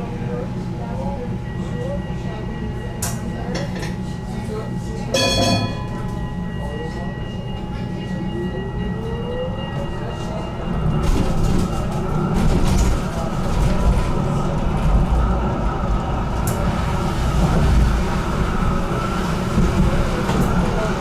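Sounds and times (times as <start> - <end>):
tram motor whine: 0.0 - 21.0
wheels rumbling on rails: 0.0 - 21.0.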